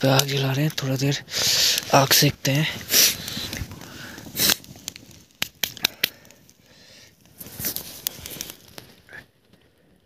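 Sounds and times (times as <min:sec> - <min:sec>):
sharp pops of fire: 0:00.0 - 0:09.6
campfire crackling: 0:00.0 - 0:10.0.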